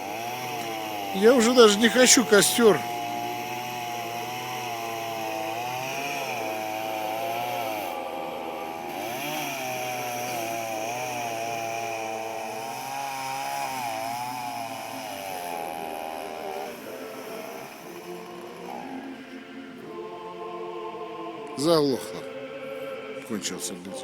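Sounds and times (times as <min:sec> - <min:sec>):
chainsaw cutting wood: 0:00.0 - 0:20.1.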